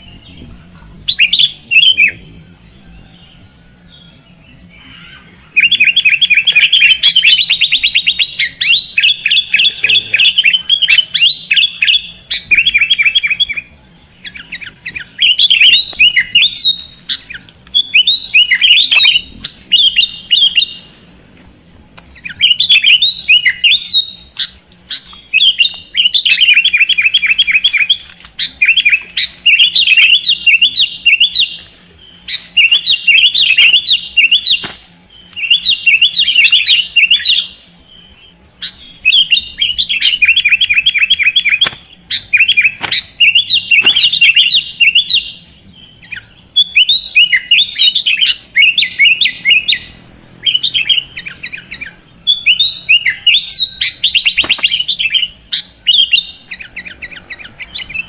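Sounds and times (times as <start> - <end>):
bird chattering chirps: 0.0 - 3.2, 3.8 - 58.0.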